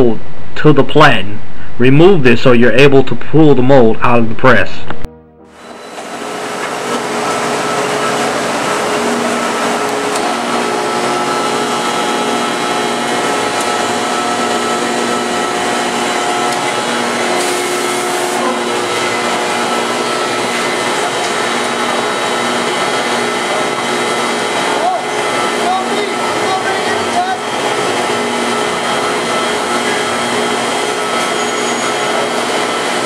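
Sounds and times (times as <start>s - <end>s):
industrial machinery hiss and hum: 5.5s - 33.0s.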